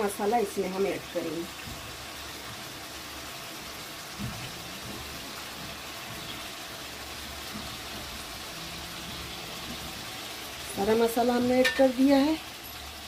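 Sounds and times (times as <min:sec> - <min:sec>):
chicken and onions sizzling in oil: 0:00.0 - 0:13.0.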